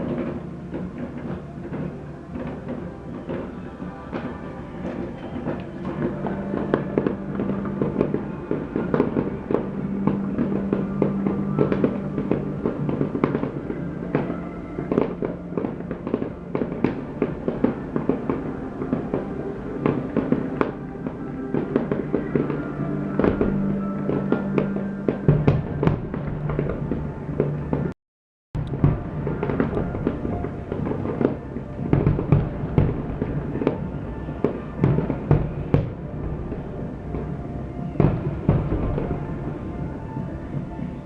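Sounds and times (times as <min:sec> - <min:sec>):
music with sustained notes: 0:00.0 - 0:27.9, 0:28.6 - 0:41.0
fireworks bursting: 0:00.0 - 0:28.0, 0:28.6 - 0:41.0.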